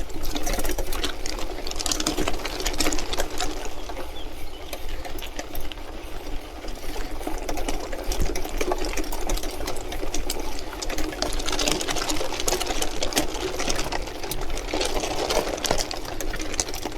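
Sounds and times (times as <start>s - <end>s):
bike tyres rattling on gravel: 0.0s - 16.9s.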